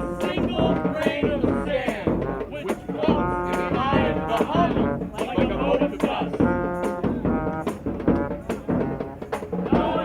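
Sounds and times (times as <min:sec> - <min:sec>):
street band playing: 0:00.0 - 0:10.0.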